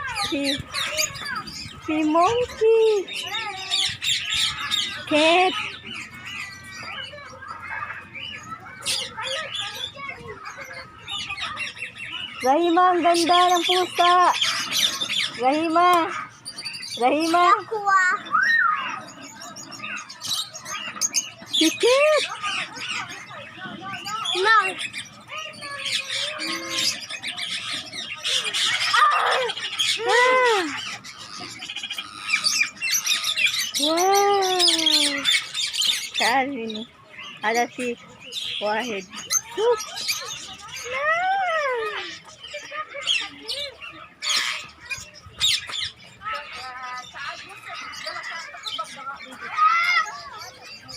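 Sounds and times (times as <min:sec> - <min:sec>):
parrots chattering and squawking: 0:00.0 - 0:50.9.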